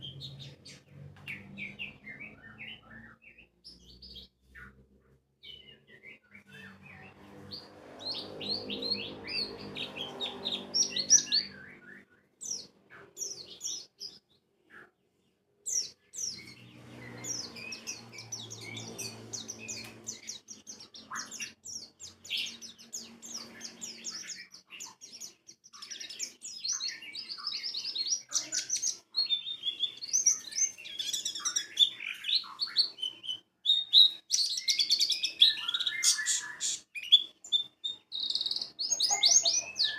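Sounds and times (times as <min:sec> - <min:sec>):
birds twittering song: 0:00.0 - 0:39.9.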